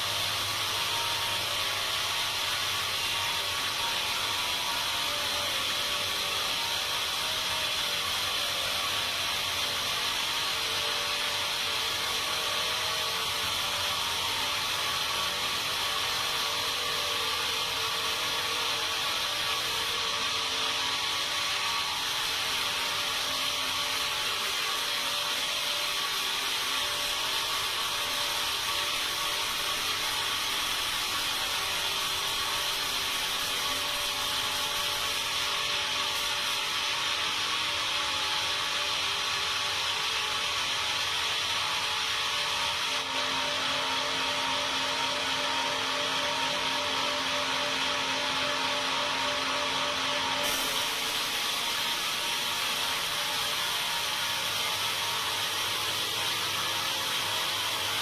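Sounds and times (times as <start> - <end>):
sawmill saw running: 0.0 - 58.0.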